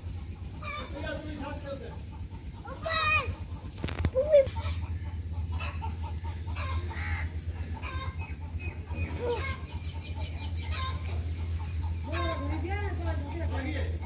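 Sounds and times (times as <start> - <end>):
chickens clucking: 0.0 - 14.0
steady low hum: 0.0 - 14.0.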